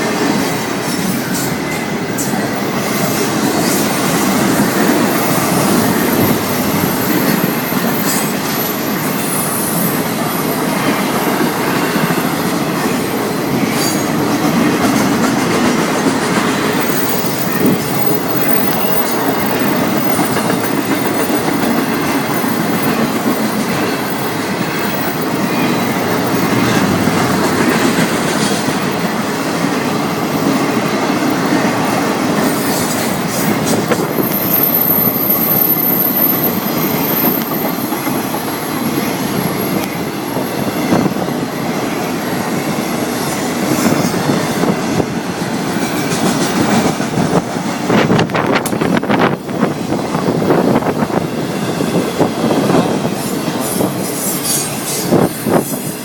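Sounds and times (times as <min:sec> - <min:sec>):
freight train wheels rattling: 0:00.0 - 0:56.0.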